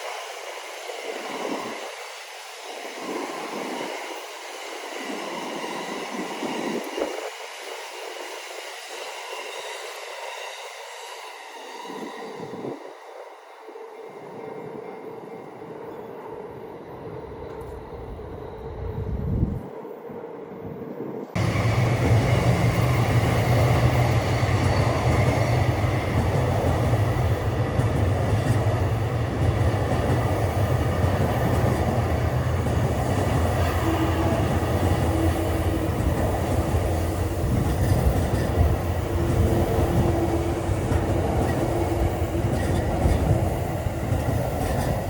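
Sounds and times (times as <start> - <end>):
train wheels rumbling on track: 0.0 - 19.8, 20.9 - 45.0.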